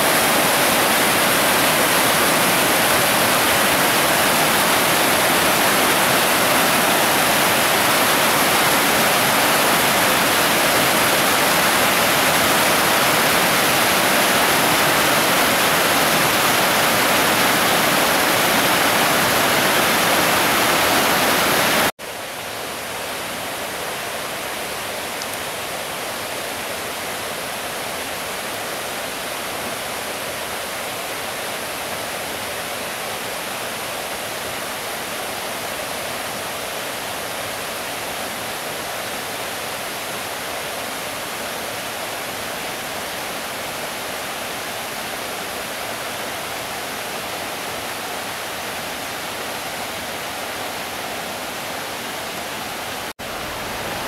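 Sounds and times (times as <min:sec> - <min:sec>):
river water rushing: 0:00.0 - 0:54.0
water rushing over a weir: 0:00.0 - 0:54.0.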